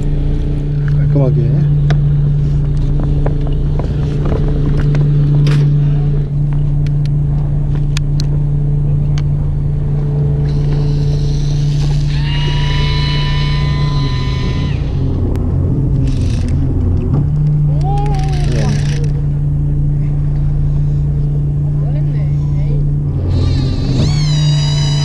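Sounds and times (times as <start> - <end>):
boat engine humming: 0.0 - 25.0
high steady whine: 0.0 - 25.0.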